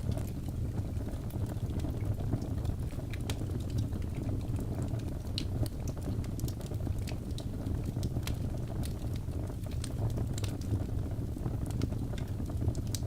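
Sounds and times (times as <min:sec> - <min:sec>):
fire crackles and pops: 0:00.0 - 0:13.0
low rumble of flame: 0:00.0 - 0:13.0.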